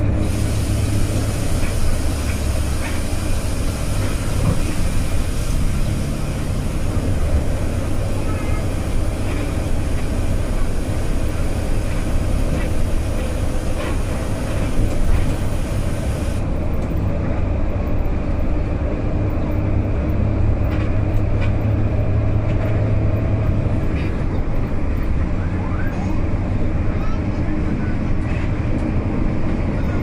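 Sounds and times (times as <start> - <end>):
vehicle engine and road rumble: 0.0 - 30.0.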